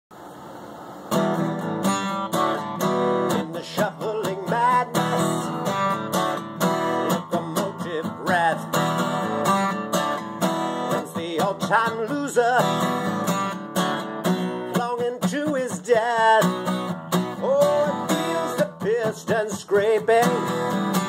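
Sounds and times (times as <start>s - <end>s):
acoustic guitar strumming chords: 1.1s - 21.0s.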